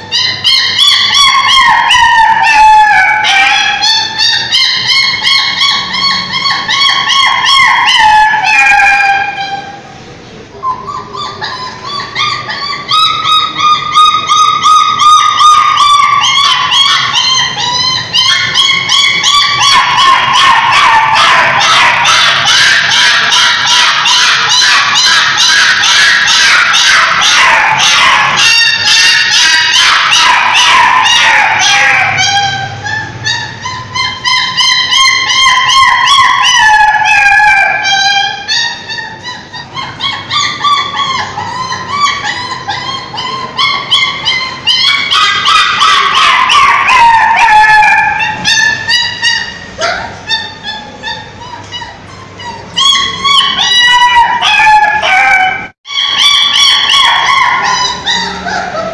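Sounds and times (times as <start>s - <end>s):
puppy whining and yelping: 0.0s - 9.8s, 10.6s - 58.9s.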